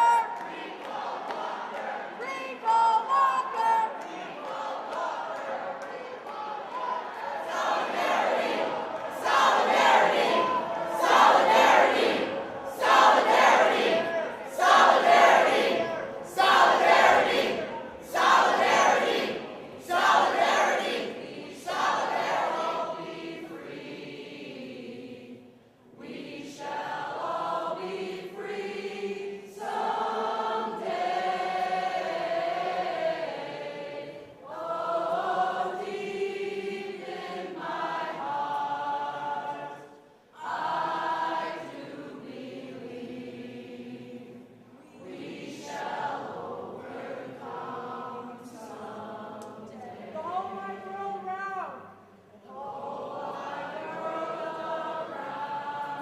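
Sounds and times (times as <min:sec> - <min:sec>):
group of voices singing: 0:00.0 - 0:56.0.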